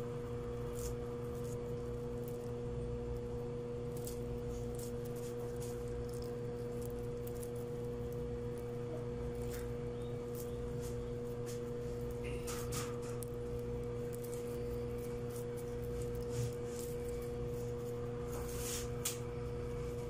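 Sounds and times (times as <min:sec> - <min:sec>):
kitchen hum: 0:00.0 - 0:20.0.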